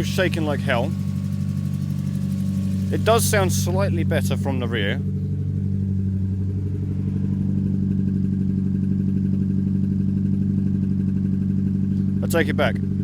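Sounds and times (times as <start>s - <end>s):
car engine idling rough: 0.0s - 13.0s.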